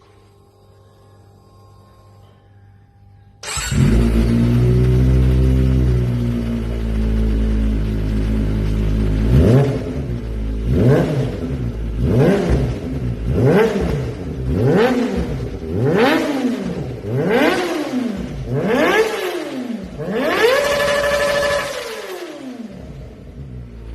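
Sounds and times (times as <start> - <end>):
motorcycle engine revving: 3.4 - 23.9.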